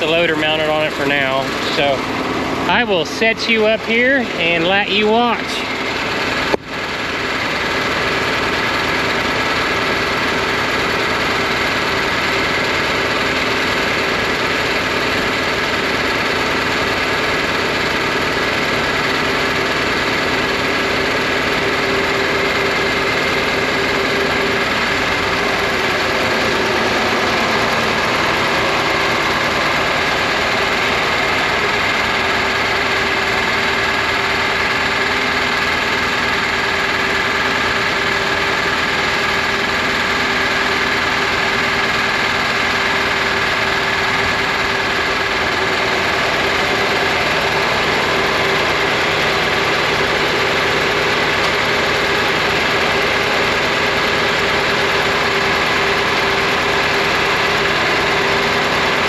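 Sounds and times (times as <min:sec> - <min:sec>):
tractor engines idling: 0:00.0 - 0:59.0.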